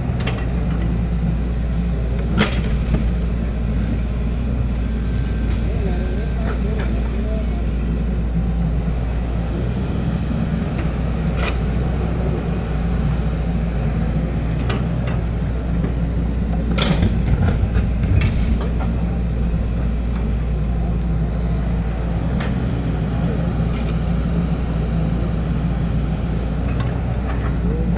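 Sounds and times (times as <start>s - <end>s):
excavator diesel engine under load: 0.0s - 27.9s.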